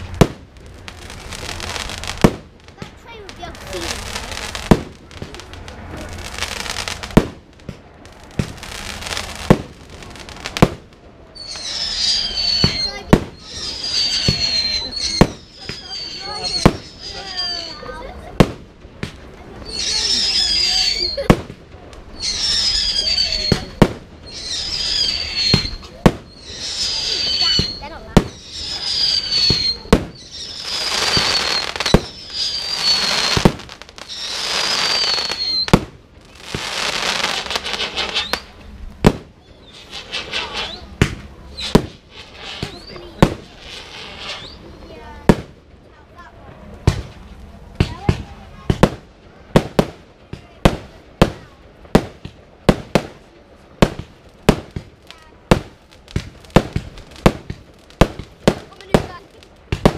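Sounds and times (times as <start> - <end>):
firework whistling: 0.0 - 45.6, 46.8 - 59.9
crackling hiss: 0.0 - 59.9
firework bangs: 0.0 - 59.9.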